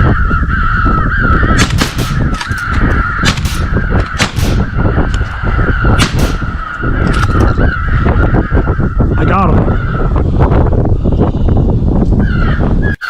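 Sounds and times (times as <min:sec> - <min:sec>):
crow cawing: 0:00.0 - 0:10.2, 0:12.2 - 0:13.0
wind buffeting microphone: 0:00.0 - 0:13.0.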